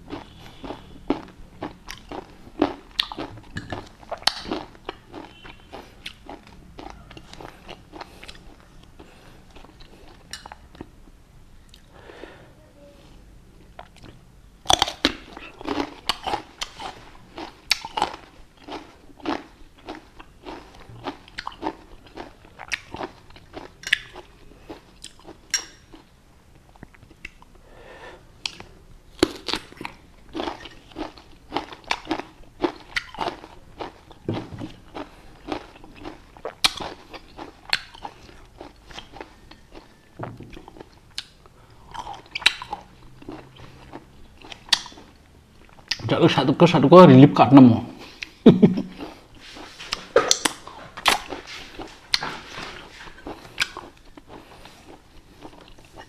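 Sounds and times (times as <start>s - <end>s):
crunchy biting and chewing fruit: 0.0s - 11.0s, 13.6s - 27.5s, 28.4s - 46.1s, 48.0s - 56.0s.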